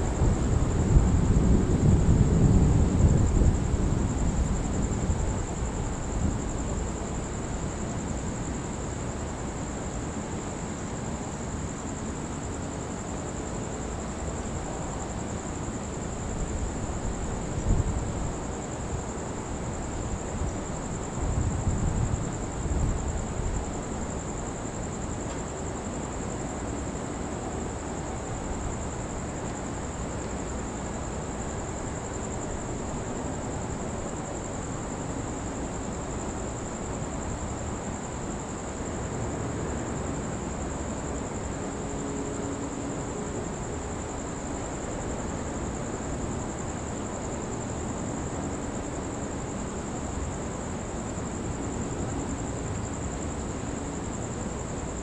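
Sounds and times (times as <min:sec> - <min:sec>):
low rumble of wind: 0:00.0 - 0:55.0.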